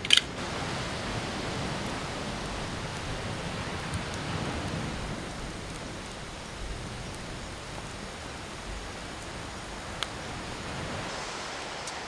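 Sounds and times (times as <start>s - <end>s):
campfire flames hissing: 0.0s - 12.0s.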